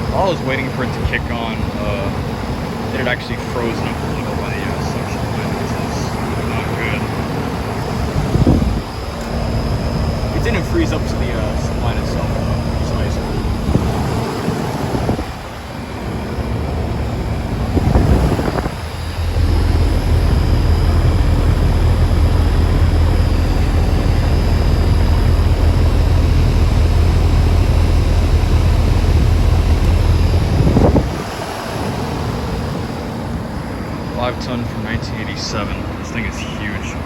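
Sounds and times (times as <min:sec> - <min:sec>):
compressor hum: 0:00.0 - 0:37.0
condenser fan whoosh: 0:00.0 - 0:37.0.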